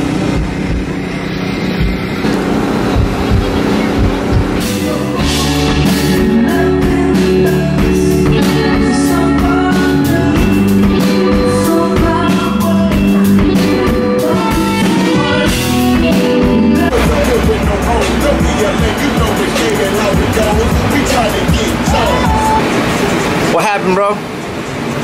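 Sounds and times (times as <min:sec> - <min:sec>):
drum kit beating: 0:00.0 - 0:13.6, 0:14.4 - 0:22.8
bass guitar: 0:00.0 - 0:22.7
electric guitar: 0:00.0 - 0:23.4.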